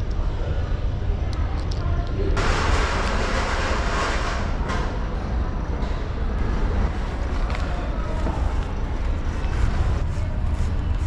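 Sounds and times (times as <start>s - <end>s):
road noise rumble: 0.0s - 11.0s.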